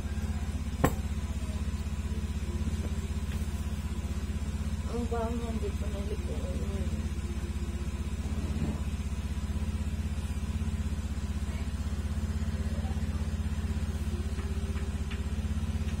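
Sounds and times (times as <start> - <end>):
motor droning with rapid pulse: 0.0 - 16.0.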